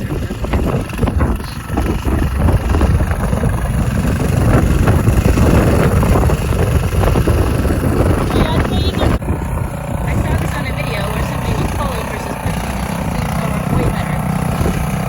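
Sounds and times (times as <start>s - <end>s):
tiller engine running: 0.0s - 15.0s.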